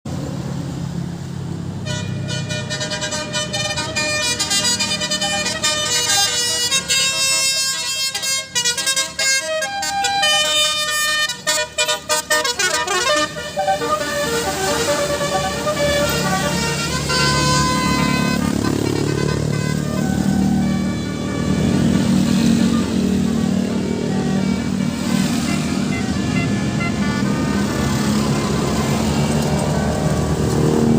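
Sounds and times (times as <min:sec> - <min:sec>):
bus engine running: 0:00.1 - 0:30.9
bus horn playing a tune: 0:01.8 - 0:30.8.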